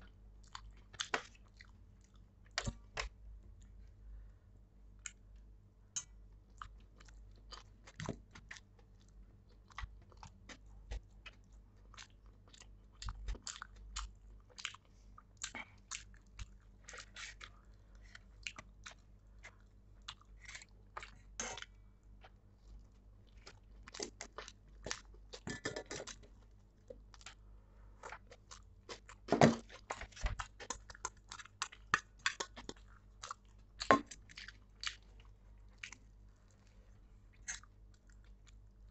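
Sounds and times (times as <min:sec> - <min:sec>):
chewing and mouth sounds: 0:00.0 - 0:03.7, 0:06.0 - 0:27.4, 0:28.0 - 0:38.9.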